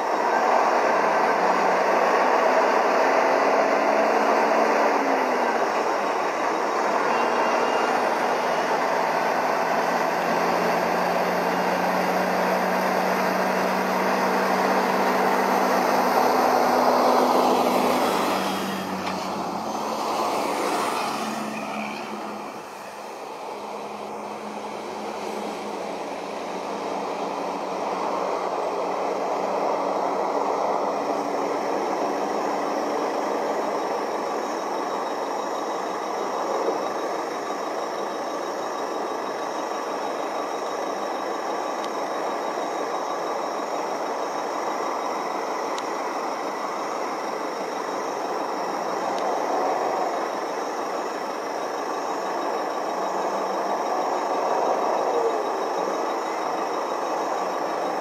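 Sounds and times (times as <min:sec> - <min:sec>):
road traffic: 0:00.0 - 0:58.0
truck engines running: 0:00.0 - 0:58.0.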